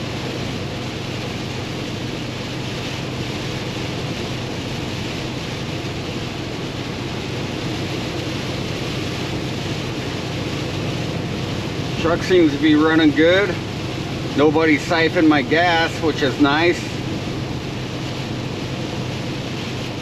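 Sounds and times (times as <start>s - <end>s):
diesel engine drone: 0.0s - 20.0s
tyres hissing on wet road: 0.0s - 20.0s.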